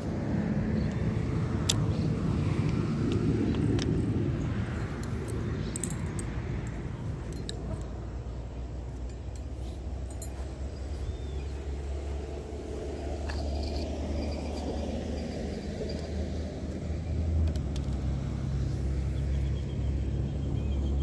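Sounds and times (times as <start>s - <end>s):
low steady rumble: 0.0s - 21.0s
fishing rods clicking and clinking: 0.8s - 18.2s.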